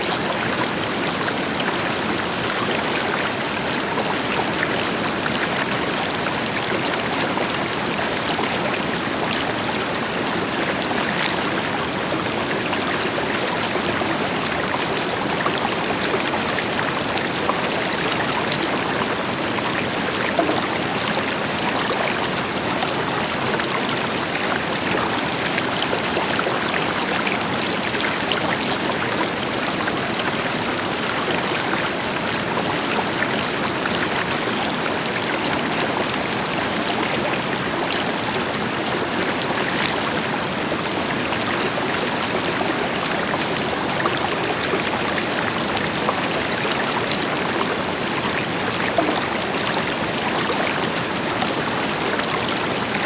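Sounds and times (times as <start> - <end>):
waterfall: 0.0 - 53.0
river flowing over rocks: 0.1 - 53.0.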